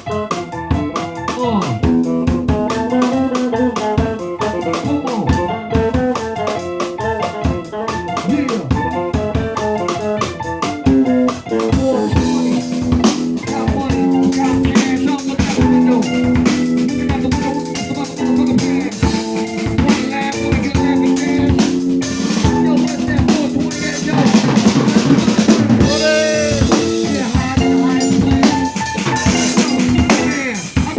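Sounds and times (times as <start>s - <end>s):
drum kit playing: 0.0s - 30.9s
organ-toned keyboard: 0.0s - 30.9s.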